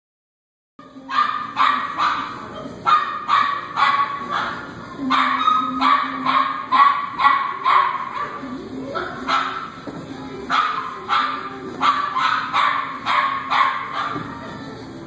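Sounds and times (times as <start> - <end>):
dog barking in play: 1.1 - 9.8, 10.5 - 14.4.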